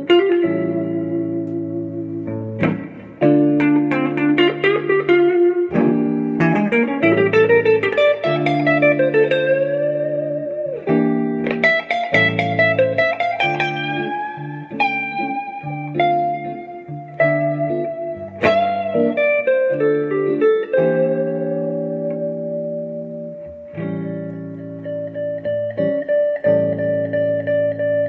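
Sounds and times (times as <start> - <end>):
electric guitar single-note lines: 0.0 - 28.0
looped jazz guitar chords: 0.0 - 28.0.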